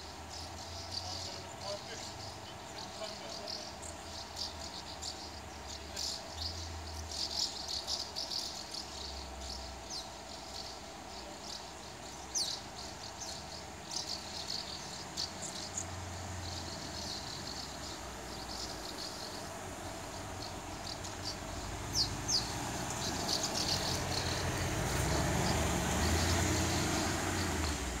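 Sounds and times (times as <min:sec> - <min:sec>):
small birds calling: 0:00.0 - 0:28.0.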